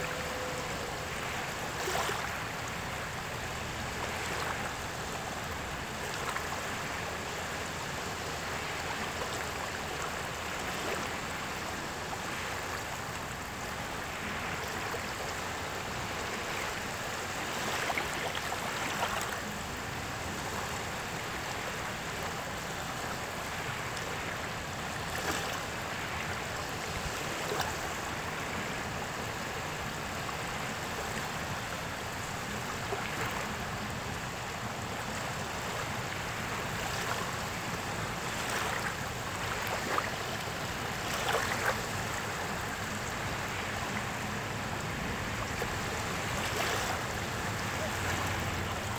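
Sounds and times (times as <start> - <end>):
small waves lapping on sand: 0.0 - 48.9.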